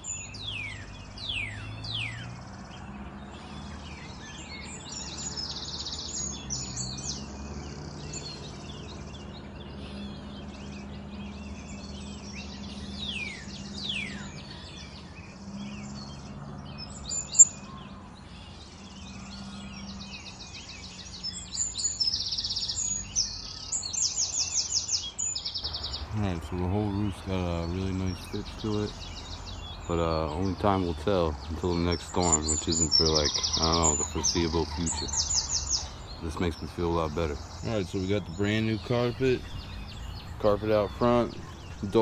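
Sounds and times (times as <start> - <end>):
birds trilling and whistling: 0.0 - 42.0.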